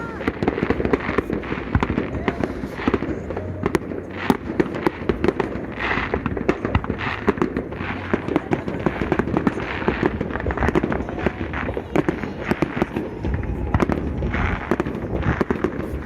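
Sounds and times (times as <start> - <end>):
fireworks bursts: 0.0 - 16.0
fireworks popping and crackling: 0.0 - 16.0.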